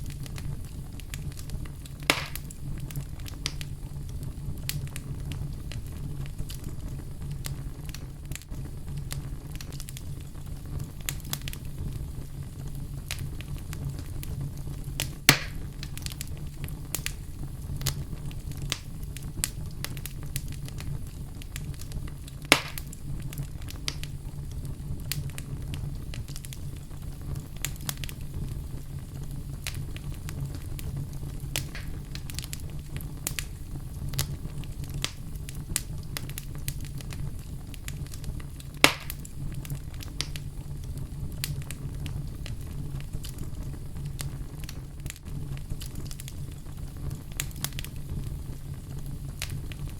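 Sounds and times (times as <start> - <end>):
fire crackling in a fireplace: 0.0 - 49.9
loud sharp fire pops: 0.0 - 49.9.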